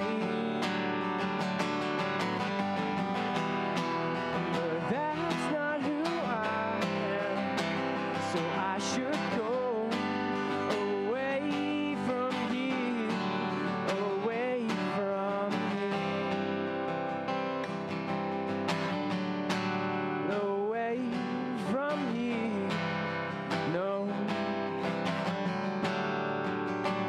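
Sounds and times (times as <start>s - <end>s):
man singing: 0.0s - 1.8s, 2.4s - 17.0s, 20.2s - 25.5s
acoustic guitar strumming: 0.0s - 27.0s.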